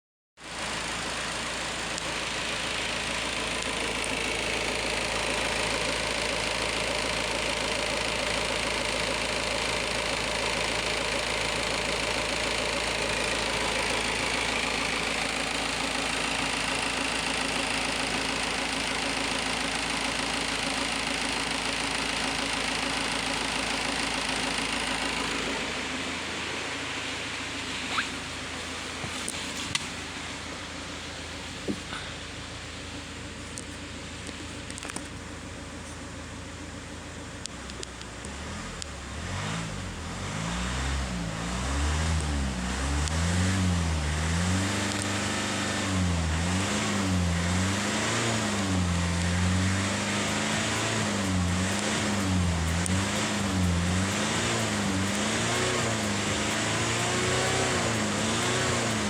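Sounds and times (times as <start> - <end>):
diesel engine idling: 0.4 - 40.4, 41.2 - 59.0.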